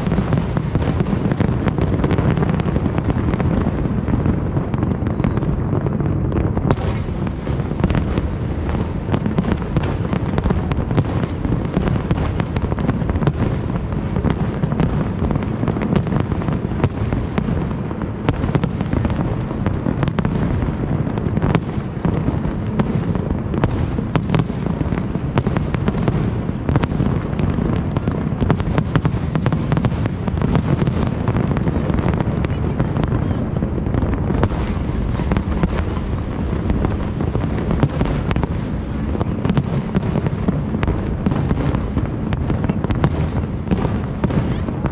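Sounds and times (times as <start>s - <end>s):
rumble of firework booms: 0.0s - 44.9s
sharp firework cracks: 0.0s - 44.9s.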